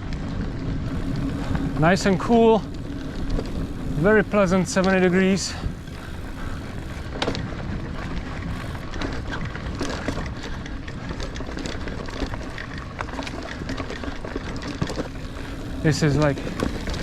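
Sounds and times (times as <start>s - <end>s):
bike clicks and rattles: 0.0s - 17.0s
bike tyres rumbling on dirt: 0.0s - 17.0s
wind: 0.0s - 17.0s.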